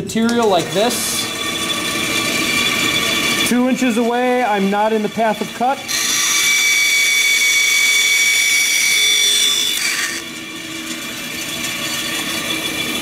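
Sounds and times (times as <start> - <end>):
bandsaw cutting wood: 0.0 - 13.0
bandsaw running hum: 0.0 - 13.0.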